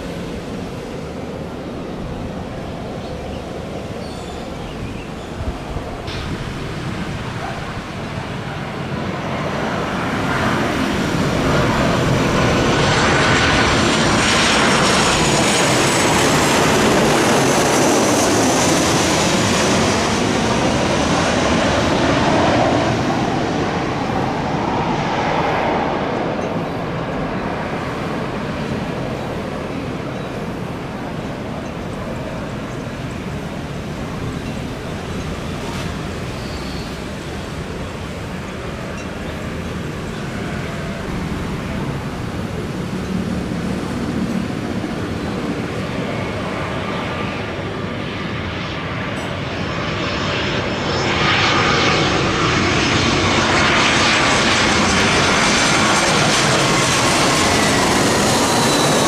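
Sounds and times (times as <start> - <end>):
airplane engine landing: 0.0 - 59.0
high turbine whine: 0.0 - 59.0.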